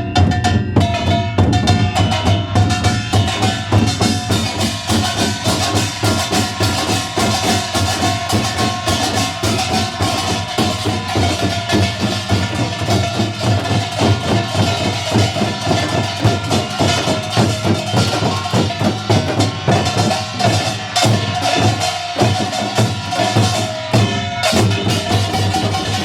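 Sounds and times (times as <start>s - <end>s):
percussion ensemble drumming: 0.0s - 26.0s.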